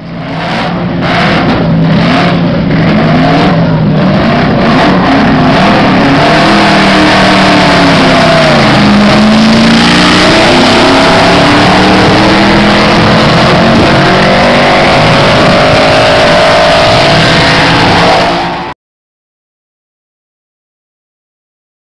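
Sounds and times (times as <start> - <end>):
racing car engine revving: 0.0 - 18.8.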